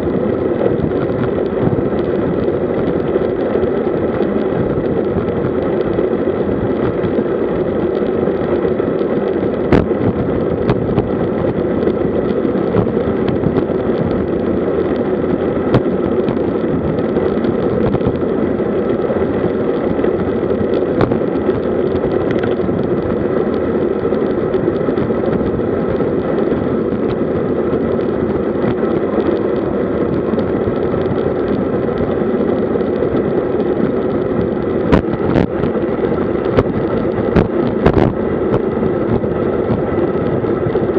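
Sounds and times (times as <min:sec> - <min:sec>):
wind and road noise: 0:00.0 - 0:40.9
sharp clicks from bumps: 0:06.8 - 0:40.9.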